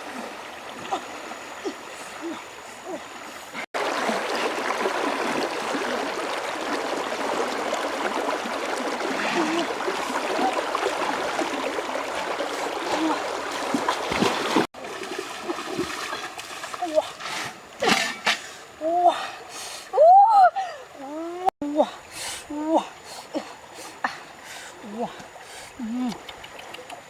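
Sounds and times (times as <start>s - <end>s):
river water running and splashing: 0.0s - 27.0s.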